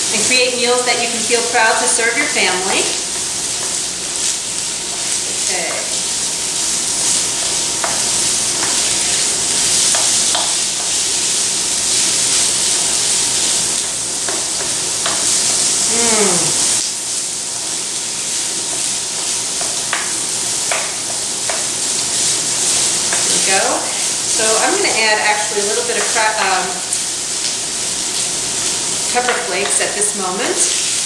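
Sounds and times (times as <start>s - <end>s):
meat sizzling in a skillet: 0.0s - 31.0s.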